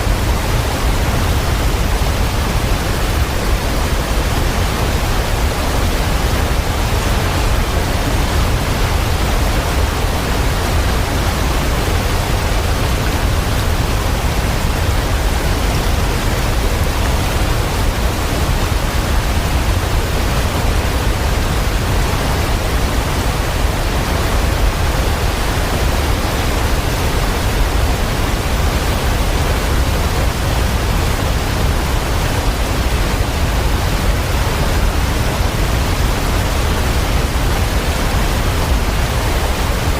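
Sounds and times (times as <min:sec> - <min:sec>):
heavy falling water: 0:00.0 - 0:39.9.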